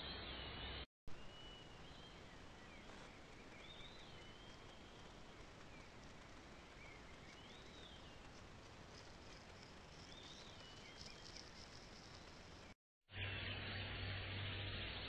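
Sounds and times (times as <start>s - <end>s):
faint whistled bird song: 0.0s - 13.6s.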